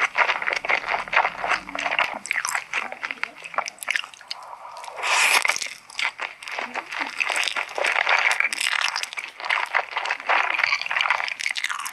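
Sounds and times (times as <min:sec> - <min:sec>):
close chewing and mouth clicks: 0:00.0 - 0:11.9.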